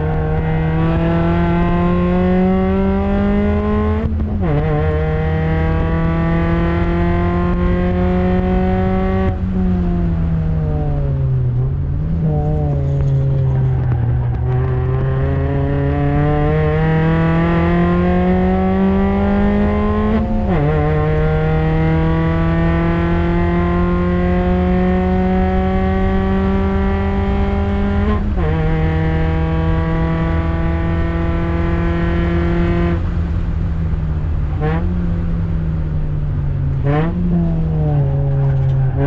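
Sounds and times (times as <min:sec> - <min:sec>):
race car engine accelerating: 0:00.0 - 0:35.5, 0:36.8 - 0:39.0.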